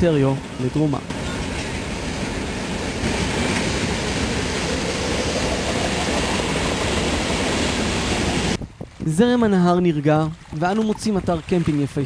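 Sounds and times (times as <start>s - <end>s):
freight train wagons rolling on rails: 0.0s - 12.0s.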